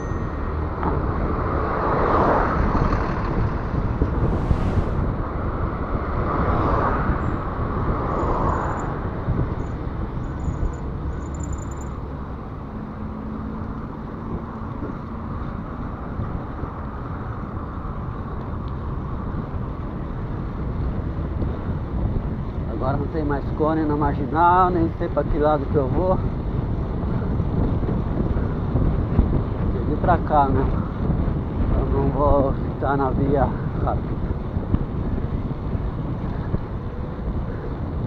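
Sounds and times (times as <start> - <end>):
road traffic passing: 0.0 - 38.0
wind rumbling on microphone: 0.0 - 38.0.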